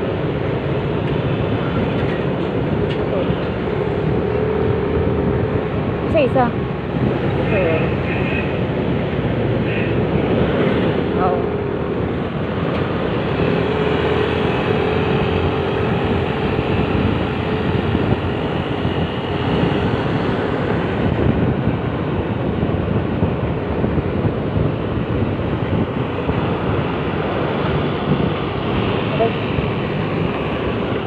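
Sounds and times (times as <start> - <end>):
scooter engine and road noise: 0.0 - 31.0
steady drone: 0.0 - 31.0
wind rushing over microphone: 0.0 - 31.0.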